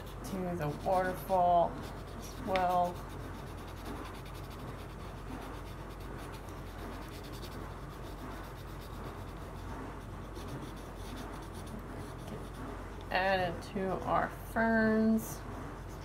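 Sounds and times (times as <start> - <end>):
pencil scratching on paper: 0.0 - 14.1.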